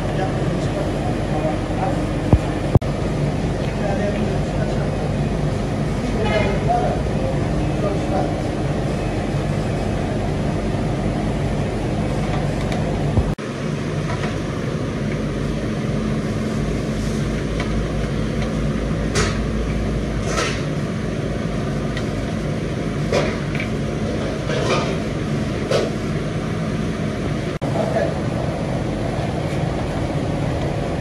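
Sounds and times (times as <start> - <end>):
kitchen machinery rumbling: 0.0 - 31.0.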